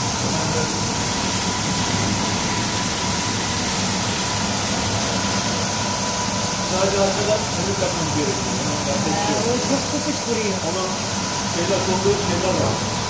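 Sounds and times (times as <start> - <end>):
carpet washing machine scrubbing: 0.0 - 13.0.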